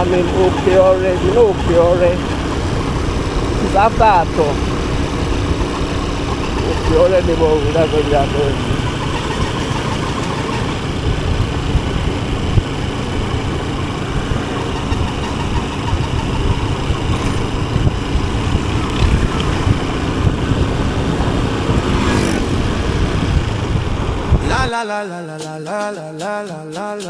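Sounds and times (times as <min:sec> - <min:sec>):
motorcycle engine running: 0:00.0 - 0:24.7
road traffic noise: 0:00.0 - 0:24.7.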